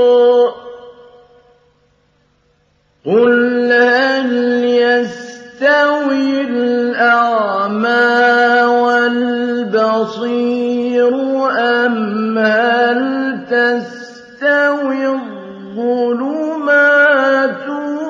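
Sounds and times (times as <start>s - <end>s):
man chanting melodically: 0.0s - 1.4s, 3.0s - 18.0s.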